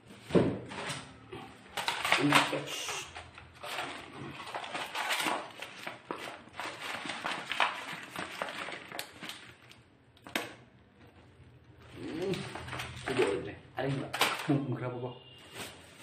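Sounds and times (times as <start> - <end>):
plastic bag crinkling: 0.7 - 14.8.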